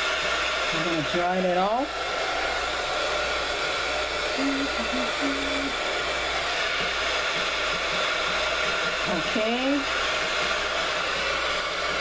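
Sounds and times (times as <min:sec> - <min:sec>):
heat gun blowing: 0:00.0 - 0:12.0.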